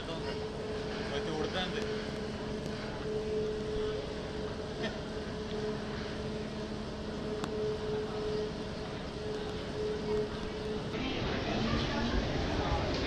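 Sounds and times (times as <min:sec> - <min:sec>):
ropeway machinery rumbling: 0:00.0 - 0:13.0.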